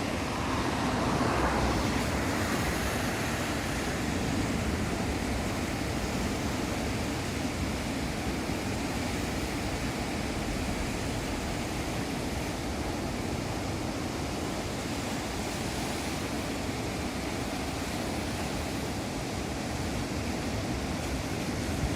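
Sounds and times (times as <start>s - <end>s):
roar of heavy surf: 0.0s - 21.9s
wind: 0.0s - 21.9s.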